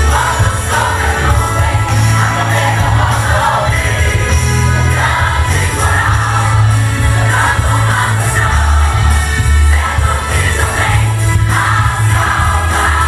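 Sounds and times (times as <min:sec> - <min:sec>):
gospel band playing: 0:00.0 - 0:13.0
voices singing together: 0:00.0 - 0:13.0.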